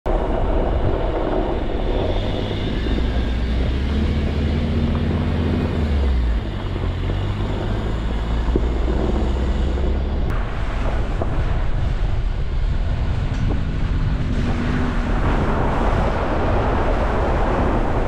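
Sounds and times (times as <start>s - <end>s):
vehicle engine low rumble: 0.1s - 18.0s.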